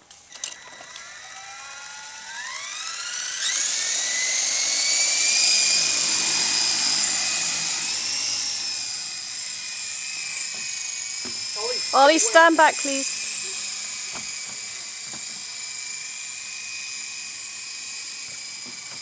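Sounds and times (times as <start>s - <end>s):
model helicopter motor whine: 0.0s - 19.0s.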